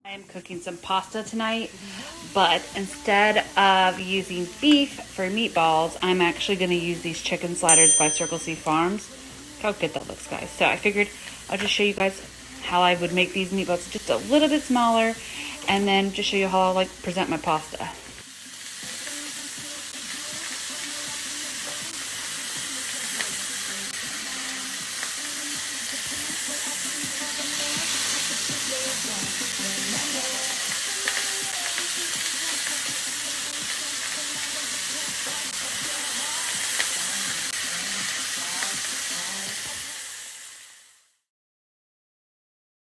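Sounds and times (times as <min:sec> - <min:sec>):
meatballs sizzling in a pan: 0:00.2 - 0:41.3.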